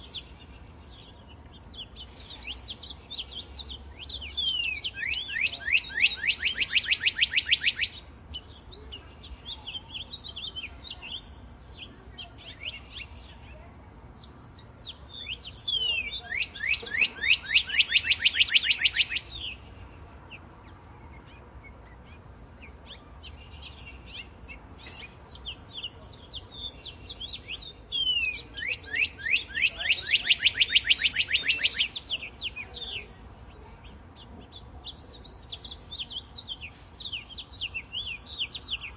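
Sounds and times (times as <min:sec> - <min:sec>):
bird trilling song: 0:00.0 - 0:38.9.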